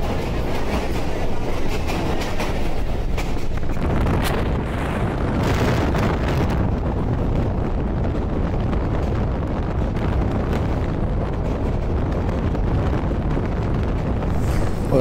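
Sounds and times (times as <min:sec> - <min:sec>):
train wheels rumbling on rails: 0:00.0 - 0:15.0
wind rushing on microphone: 0:00.0 - 0:15.0.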